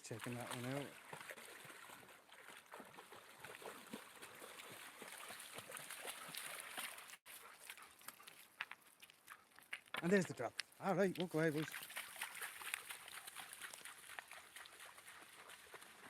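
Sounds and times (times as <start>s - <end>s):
dog swimming splashes: 0.0s - 9.6s, 10.9s - 16.0s
river water trickling: 0.0s - 16.0s.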